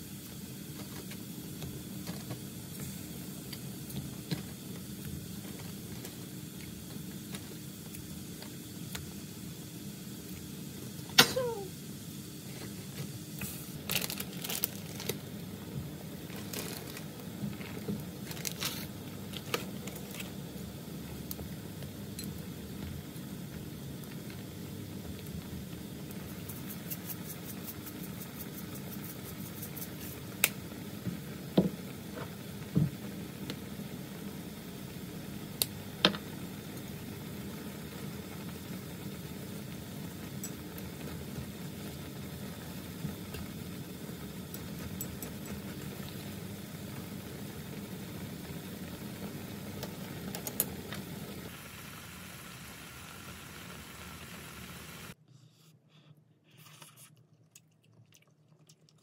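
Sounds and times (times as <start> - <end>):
broth boiling in a pan: 0.0 - 55.2, 56.6 - 59.0.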